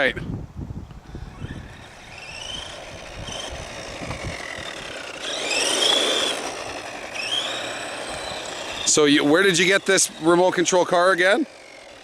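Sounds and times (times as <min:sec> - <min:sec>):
toy car electric motor whining: 0:01.0 - 0:12.0.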